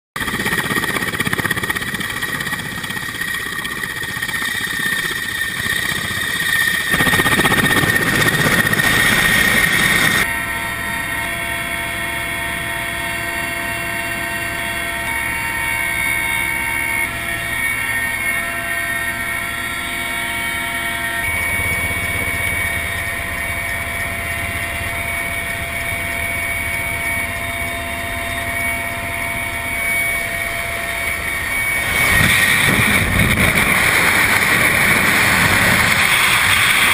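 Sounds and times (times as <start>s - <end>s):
aircraft engines droning in cabin: 0.2s - 36.9s.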